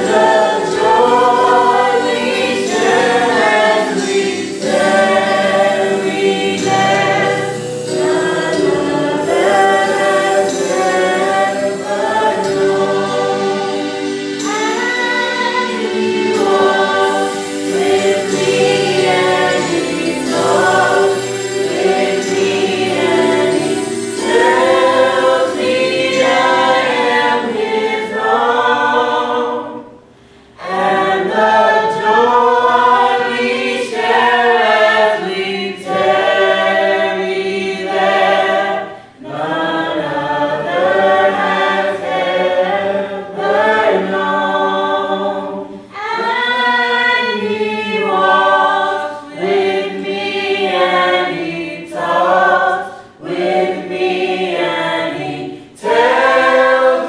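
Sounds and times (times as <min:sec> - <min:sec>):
group singing a hymn in harmony: 0:00.0 - 0:57.0.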